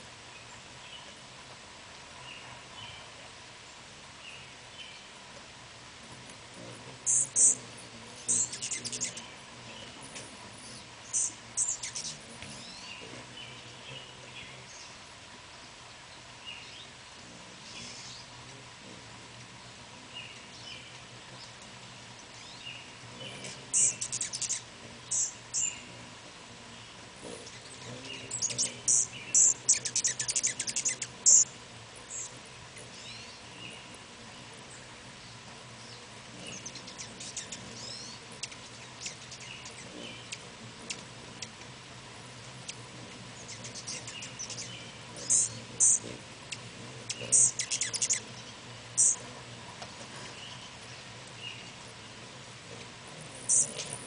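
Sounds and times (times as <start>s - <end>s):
hummingbird chip calls: 6.2s - 15.2s, 15.8s - 54.0s.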